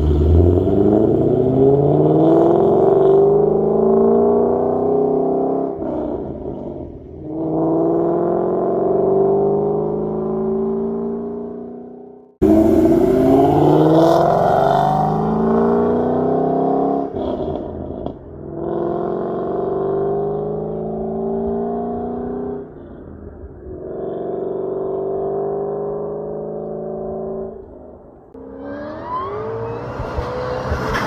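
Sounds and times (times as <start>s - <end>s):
car engine accelerating through gears: 0.0s - 23.0s, 23.7s - 31.0s.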